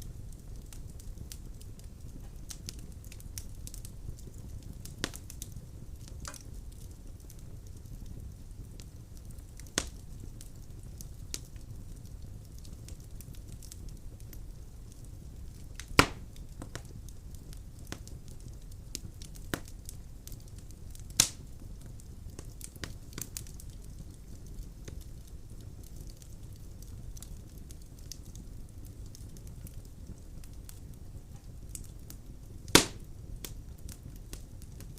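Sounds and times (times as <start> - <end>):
firewood crackling and popping: 0.0 - 34.9
low rumble of flames: 0.0 - 34.9.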